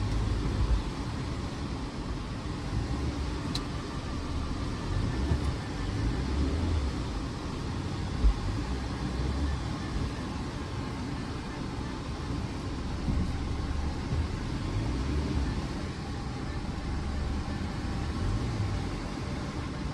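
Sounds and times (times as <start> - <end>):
car rumbling slowly: 0.0 - 19.9.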